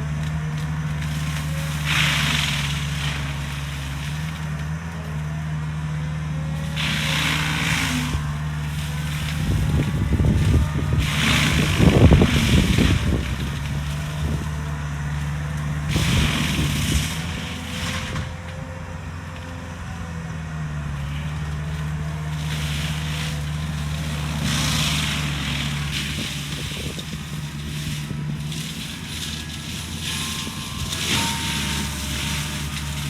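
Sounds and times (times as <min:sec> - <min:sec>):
mulching drum grinding brush: 0:00.0 - 0:33.0
skid steer engine running: 0:00.0 - 0:33.0.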